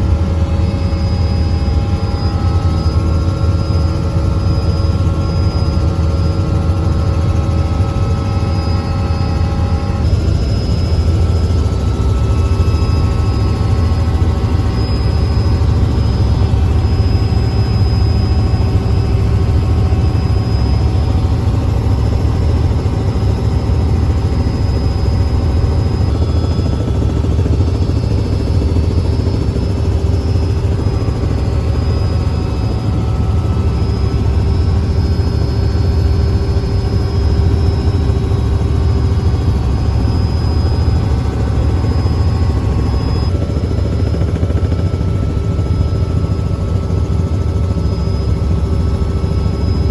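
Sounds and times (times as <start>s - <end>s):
helicopter rotor and engine: 0.0s - 49.9s.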